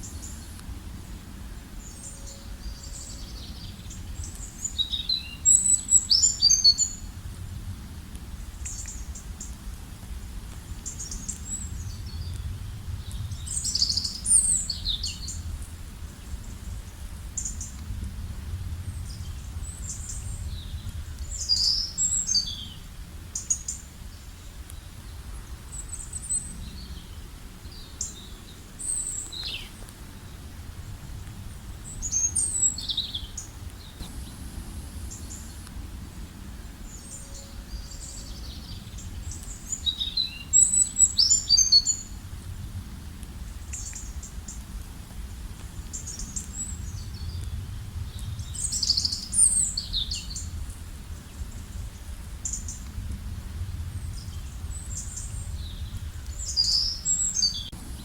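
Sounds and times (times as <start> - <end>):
steady low rumble: 6.8 - 41.2, 42.0 - 58.0.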